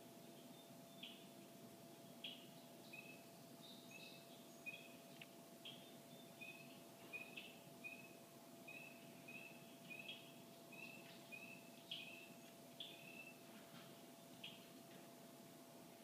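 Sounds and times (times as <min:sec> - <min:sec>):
faint steady hum: 0:00.0 - 0:16.0
small bird calling: 0:00.2 - 0:01.3, 0:02.0 - 0:13.5, 0:14.2 - 0:14.8.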